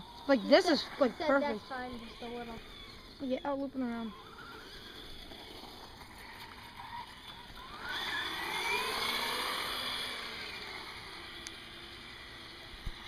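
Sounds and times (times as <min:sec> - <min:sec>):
toy car motor whining: 0:00.0 - 0:13.0.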